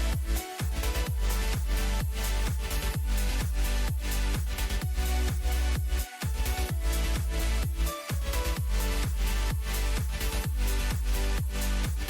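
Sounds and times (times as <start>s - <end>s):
electronic dance music: 0.0s - 12.0s
kick drum: 0.0s - 12.0s.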